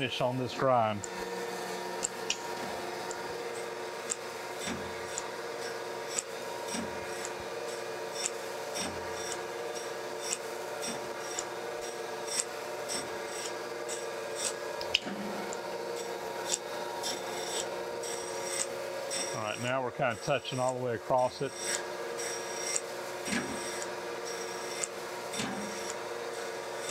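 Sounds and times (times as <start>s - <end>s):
machine hum: 0.0s - 26.9s
grinder wheel rubbing grind: 0.8s - 26.9s.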